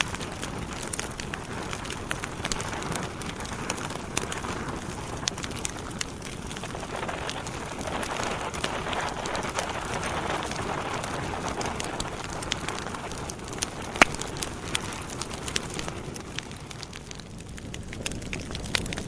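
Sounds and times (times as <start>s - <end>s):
campfire flames rushing: 0.0s - 19.0s
fire crackles and pops: 0.0s - 19.0s.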